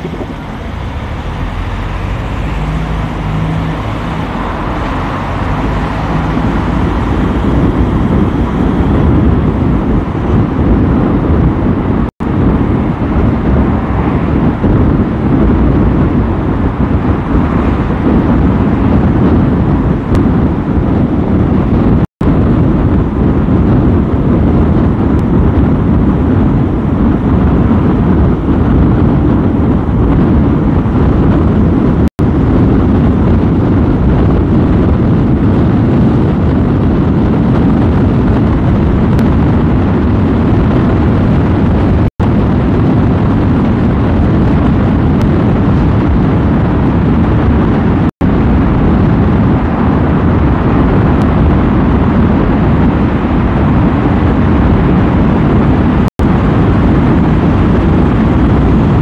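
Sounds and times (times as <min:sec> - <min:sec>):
car road and traffic rumble: 0:00.0 - 0:59.0.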